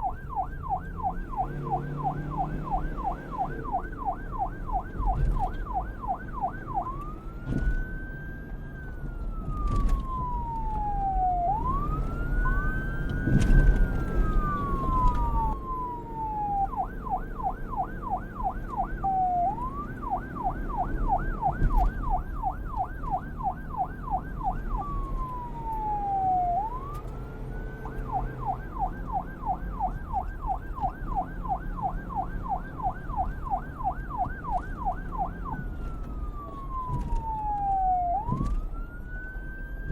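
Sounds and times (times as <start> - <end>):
police car siren: 0.0 - 39.9.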